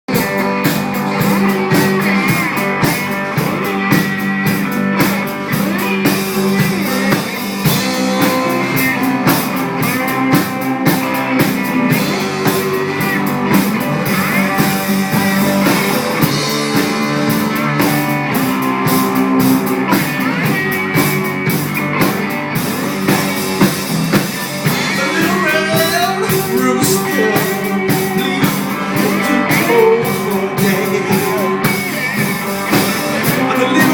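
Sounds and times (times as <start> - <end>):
guitar: 0.0 - 33.9
drum kit beat: 0.1 - 33.9.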